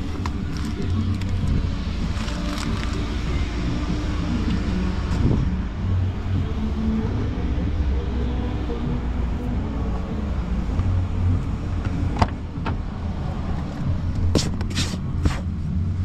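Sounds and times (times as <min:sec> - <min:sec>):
car low rumble: 0:00.0 - 0:16.0.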